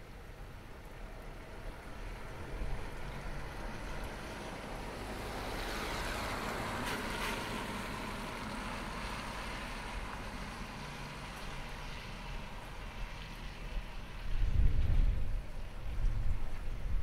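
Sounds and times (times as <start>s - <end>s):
car tyres swishing on wet road: 0.0s - 17.0s.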